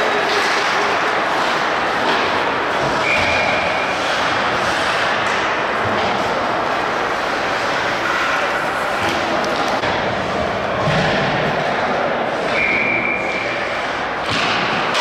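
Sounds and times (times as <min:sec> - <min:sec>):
ice hockey game din: 0:00.0 - 0:15.0.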